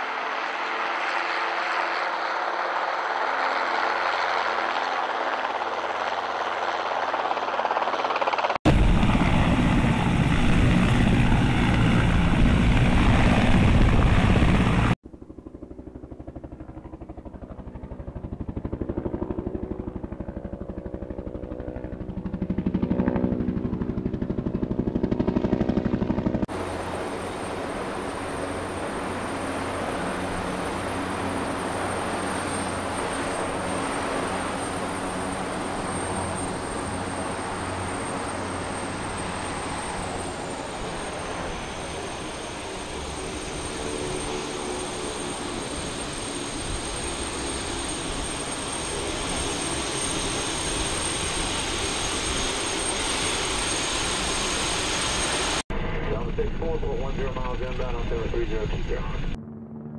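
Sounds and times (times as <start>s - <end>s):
helicopter flying past: 0.0s - 59.9s
helicopter rotor and turbine noise: 0.0s - 59.9s.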